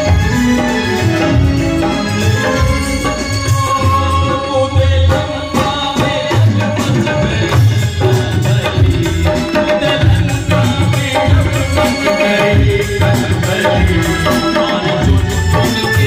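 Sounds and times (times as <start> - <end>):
hand drums: 0.0 - 16.0
held keyboard melody: 0.0 - 16.0.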